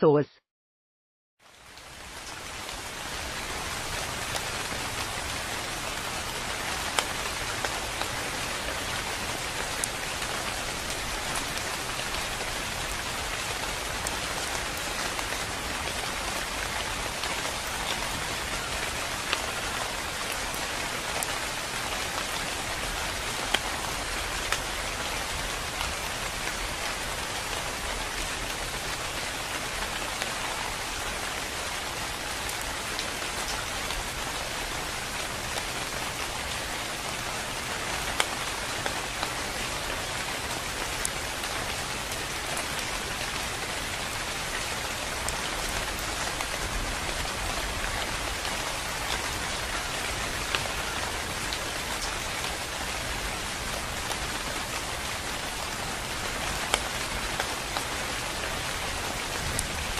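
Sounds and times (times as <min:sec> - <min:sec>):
rain on tree foliage: 0:01.4 - 0:59.9.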